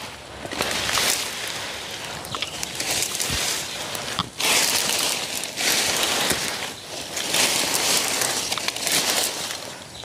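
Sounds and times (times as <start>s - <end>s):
vines and leaves rustling: 0.0s - 10.0s.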